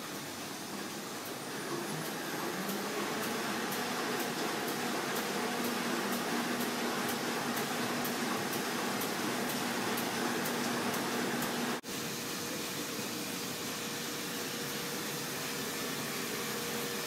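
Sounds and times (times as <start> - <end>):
printing press whirring: 0.0 - 17.0.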